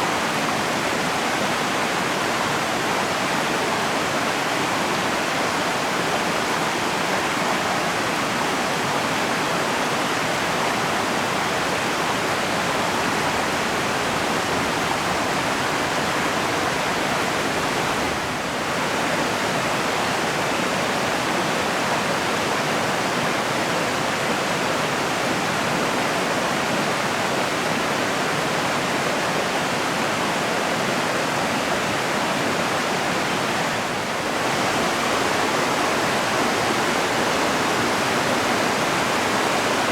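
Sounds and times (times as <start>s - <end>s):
mountain river flowing: 0.0s - 39.9s.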